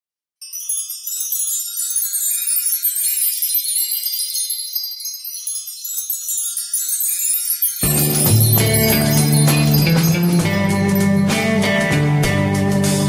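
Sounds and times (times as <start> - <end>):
glittering chimes and tinkling bells: 0.4 - 12.2.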